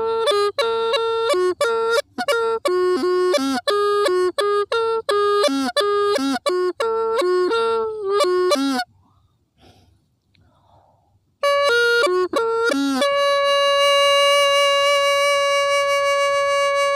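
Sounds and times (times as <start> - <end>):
bamboo flute playing a tune: 0.0 - 8.9, 11.4 - 16.9.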